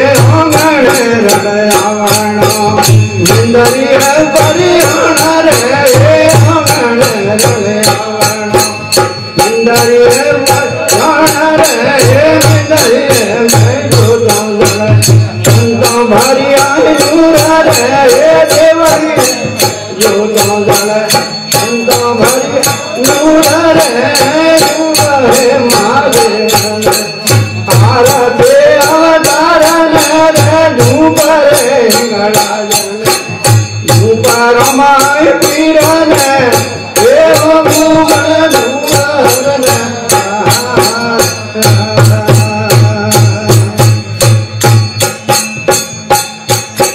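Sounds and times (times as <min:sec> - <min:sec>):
hand cymbals clashing: 0:00.0 - 0:46.9.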